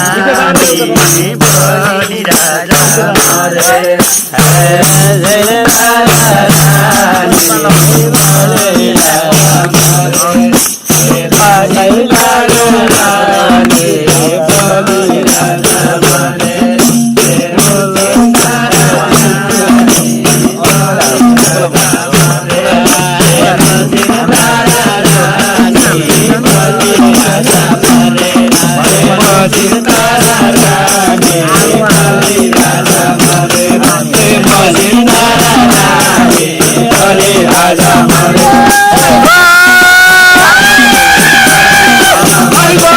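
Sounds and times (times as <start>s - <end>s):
hand percussion fast beat: 0.0s - 42.9s
voices singing a folk song: 0.0s - 42.9s.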